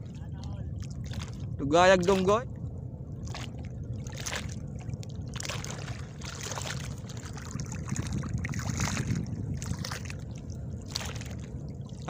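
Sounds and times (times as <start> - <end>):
low steady rumble: 0.0 - 12.0
water splashing and trickling: 0.0 - 12.0.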